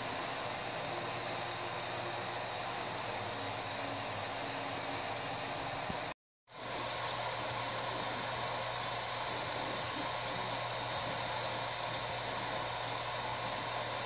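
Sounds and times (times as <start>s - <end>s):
cooling fans whirring: 0.0s - 14.0s.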